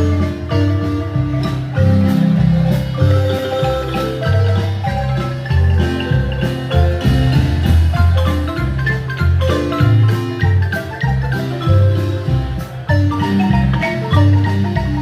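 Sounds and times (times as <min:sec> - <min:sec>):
marimba playing quick runs: 0:00.0 - 0:15.0
moving bass line: 0:00.0 - 0:15.0.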